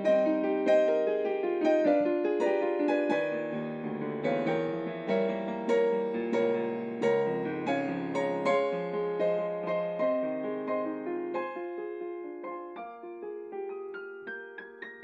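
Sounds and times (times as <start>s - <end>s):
digital piano playing: 0.0s - 15.0s.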